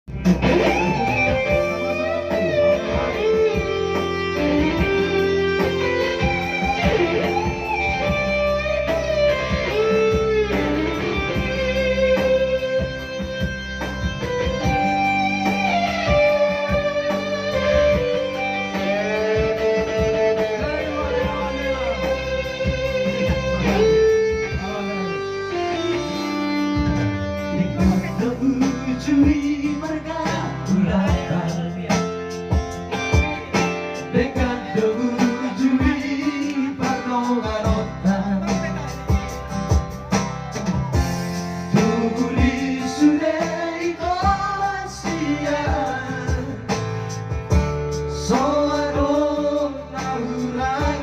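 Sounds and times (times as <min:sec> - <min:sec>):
bass and steady beat: 0:00.0 - 0:51.0
electric guitar lead melody: 0:00.1 - 0:51.0.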